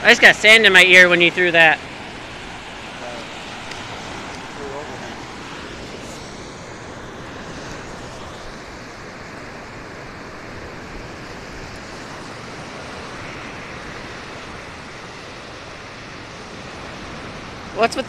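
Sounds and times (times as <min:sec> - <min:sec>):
lake surf washing onto beach: 0:00.0 - 0:18.0.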